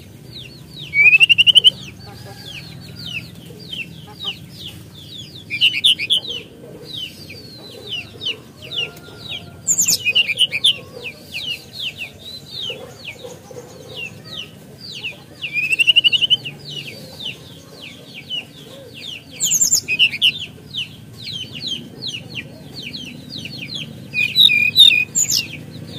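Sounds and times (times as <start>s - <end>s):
songbird chattering: 0.0s - 25.9s.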